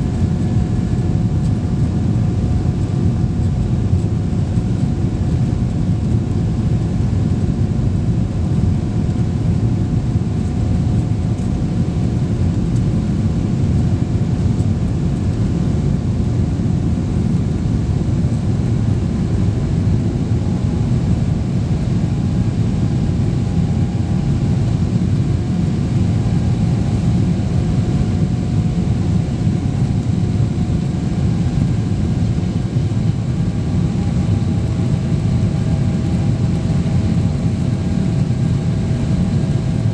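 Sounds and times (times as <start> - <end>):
jet cabin engine roar: 0.0 - 39.9.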